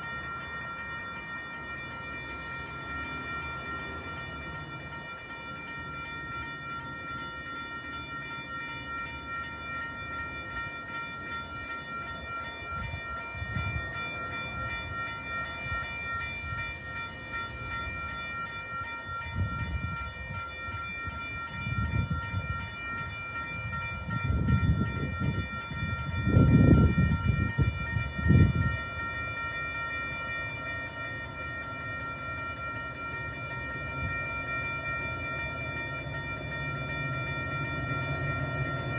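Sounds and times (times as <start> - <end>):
low train rumbling: 0.0 - 38.9
steady chord of high tones: 0.0 - 38.9.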